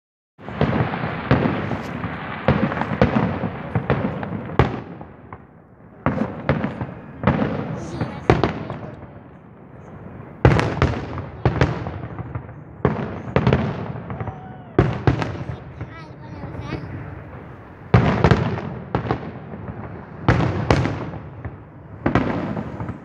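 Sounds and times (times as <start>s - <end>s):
fireworks bursting with sharp bangs: 0.4s - 23.0s.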